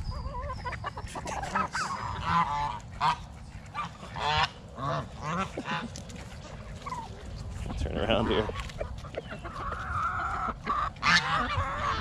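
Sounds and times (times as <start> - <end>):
geese honking: 0.2 - 7.1, 7.8 - 12.0.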